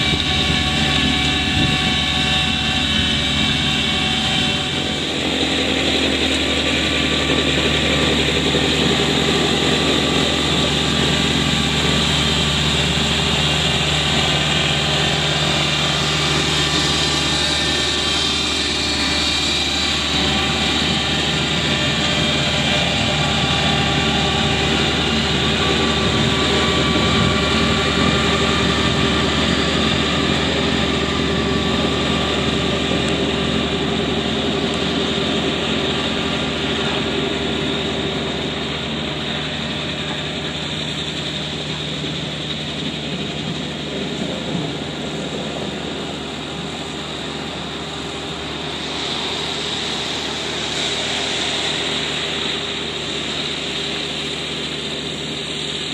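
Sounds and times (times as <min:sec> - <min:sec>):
snowblower throwing slush: 0:00.0 - 0:55.9
tractor diesel engine running: 0:00.0 - 0:55.9.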